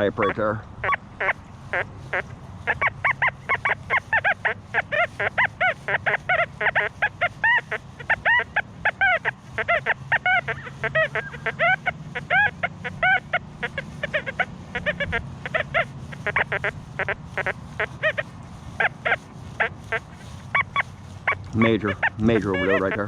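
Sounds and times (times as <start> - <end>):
metal detector chirping: 0.0 - 23.0.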